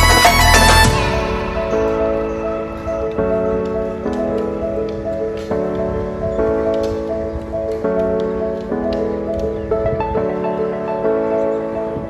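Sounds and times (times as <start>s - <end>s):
soft melodic background music: 0.0s - 12.0s.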